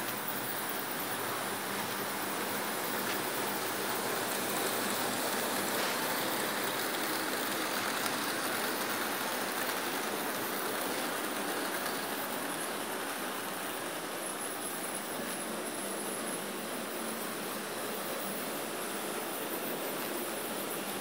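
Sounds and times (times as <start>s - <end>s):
model train motors whirring: 0.0s - 21.0s.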